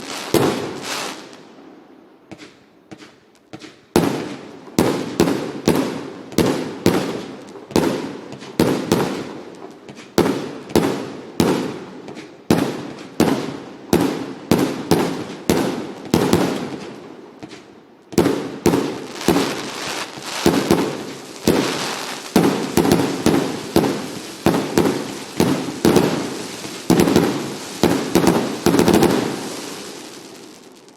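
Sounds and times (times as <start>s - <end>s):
fireworks banging: 0.0s - 1.4s, 2.3s - 30.9s.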